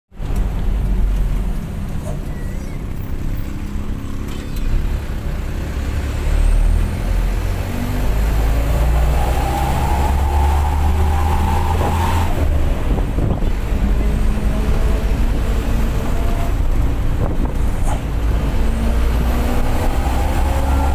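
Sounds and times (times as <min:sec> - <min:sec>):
bus diesel engine humming: 0:00.1 - 0:20.9.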